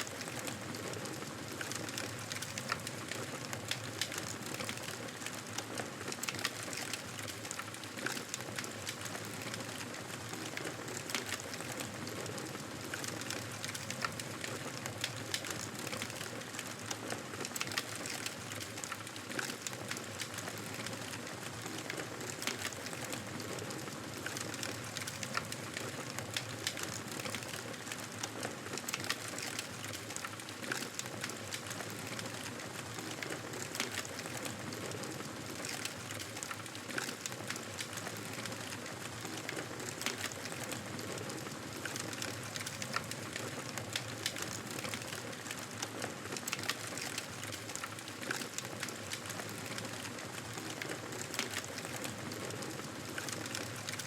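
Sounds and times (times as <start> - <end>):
crackles and pops of fire: 0.0 - 54.0
wood fire burning: 0.0 - 54.0.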